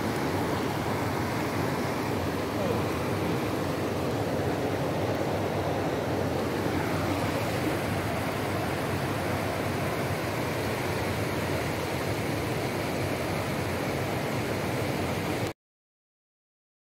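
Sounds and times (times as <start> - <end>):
river water rushing over rocks: 0.0 - 15.5.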